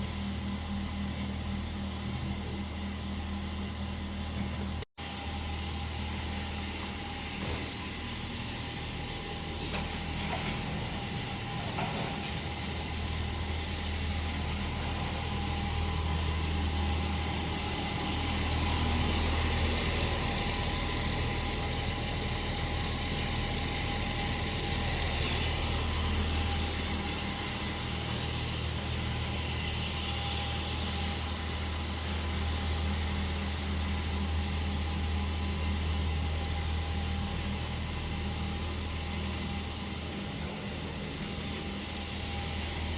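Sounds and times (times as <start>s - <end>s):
machine humming: 0.0s - 42.9s.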